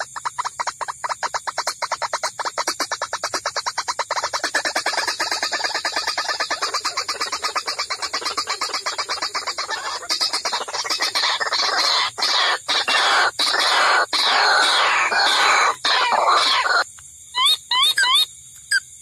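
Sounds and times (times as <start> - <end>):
waterhen rapid repeated notes: 0.0 - 16.8
harsh bird squawking: 0.0 - 18.8.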